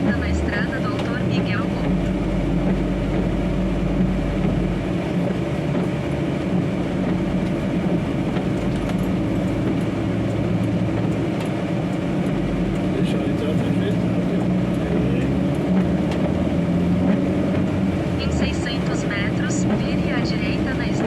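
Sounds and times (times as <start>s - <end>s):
road noise: 0.0s - 21.0s
truck engine droning: 0.0s - 21.0s.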